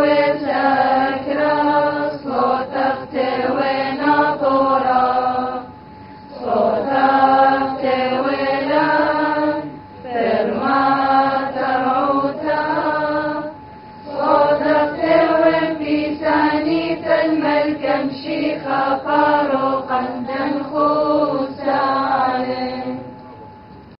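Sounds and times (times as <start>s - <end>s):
liturgical chant singing: 0.0s - 23.2s.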